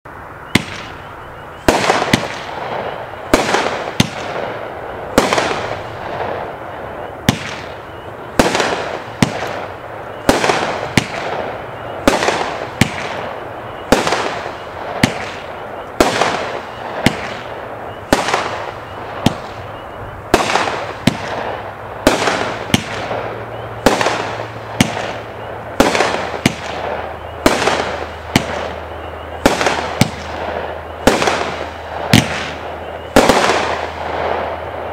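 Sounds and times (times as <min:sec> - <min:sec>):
fireworks bangs: 0:00.4 - 0:34.9
fireworks hiss and crackle: 0:00.6 - 0:34.9.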